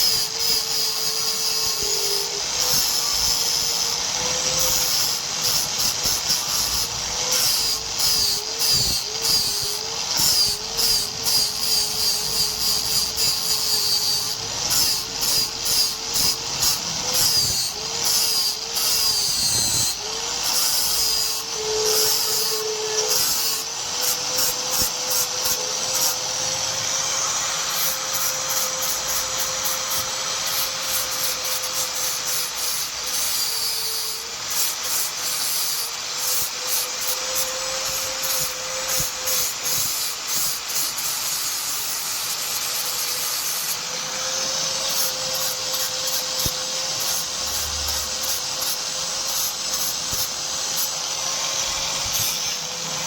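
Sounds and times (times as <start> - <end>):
electric grinder scraping: 0.0 - 53.0.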